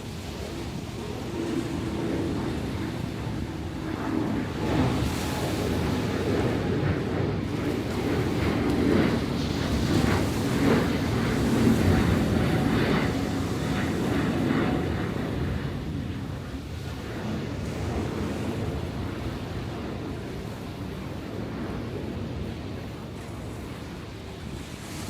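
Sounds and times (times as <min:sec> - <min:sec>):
sea surf breaking on shore: 0:00.0 - 0:25.0.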